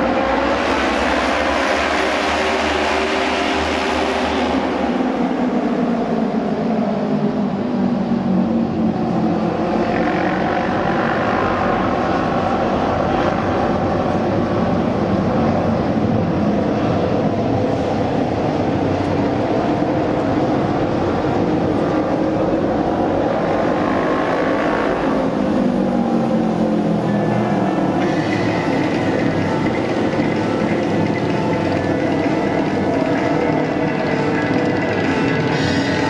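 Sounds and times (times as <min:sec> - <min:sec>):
racing motorcycles passing: 0:00.0 - 0:36.0.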